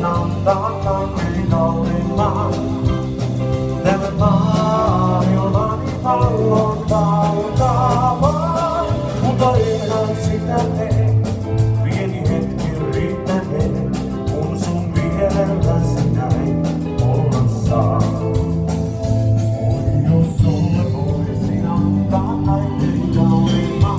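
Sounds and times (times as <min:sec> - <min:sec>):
bass line: 0:00.0 - 0:23.9
person singing: 0:00.0 - 0:23.9
steady drum beat: 0:00.0 - 0:23.9.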